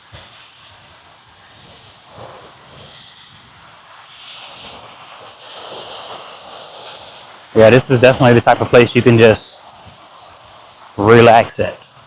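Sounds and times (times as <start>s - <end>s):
waves breaking on sandy beach: 0.0s - 12.0s.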